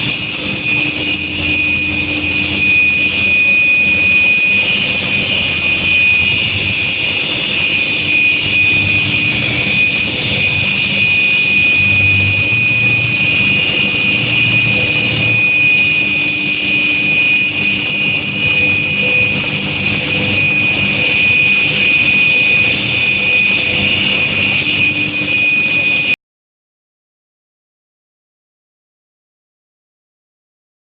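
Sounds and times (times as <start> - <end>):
furnace high-pitched whine and hum: 0.0 - 26.2.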